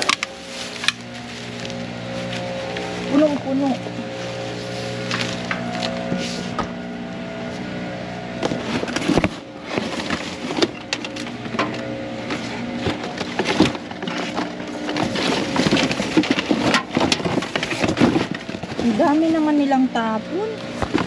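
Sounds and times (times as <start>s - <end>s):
cardboard and plastic rustling: 0.0s - 6.8s, 8.4s - 21.0s
steady hum of held tones: 0.0s - 21.0s.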